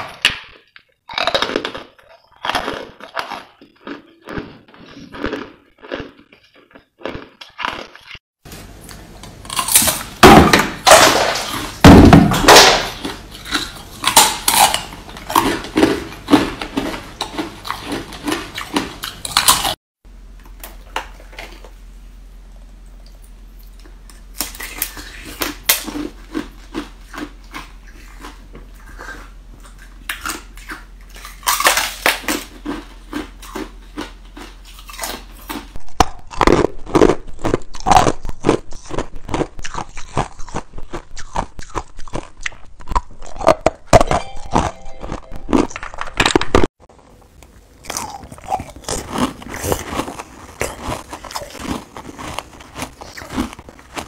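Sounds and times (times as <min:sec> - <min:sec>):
teeth crunching ice: 0:00.0 - 0:08.2, 0:10.8 - 0:19.8, 0:23.8 - 0:46.6, 0:47.8 - 0:54.0.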